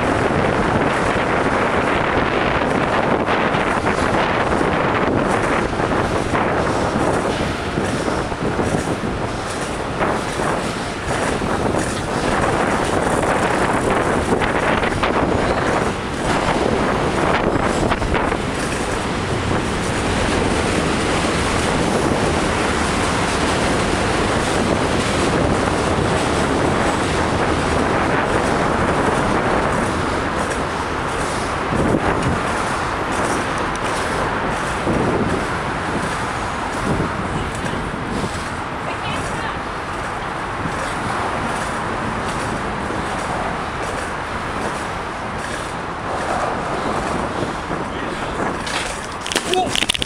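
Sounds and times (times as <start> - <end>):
traffic rumble: 0.0 - 50.0
wind rushing on microphone: 0.0 - 50.0.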